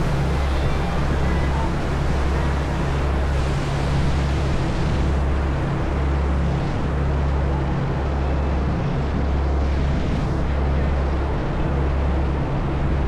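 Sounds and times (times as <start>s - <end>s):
churning water wake: 0.0s - 13.0s
ferry engines droning: 0.0s - 13.0s.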